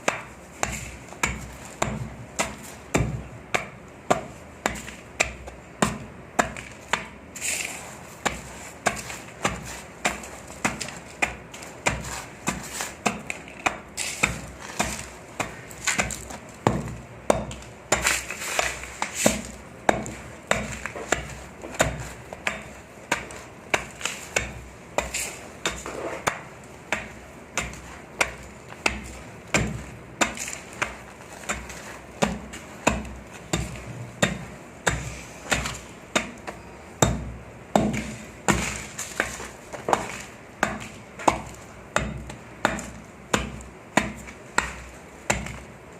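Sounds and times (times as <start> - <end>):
dry sand crunching: 4.3 - 45.9.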